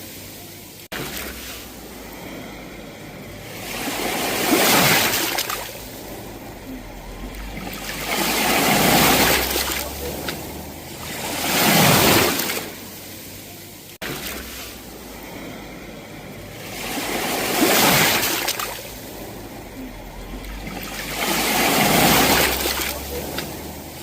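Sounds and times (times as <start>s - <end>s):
sea waves breaking on shore: 0.0s - 24.0s.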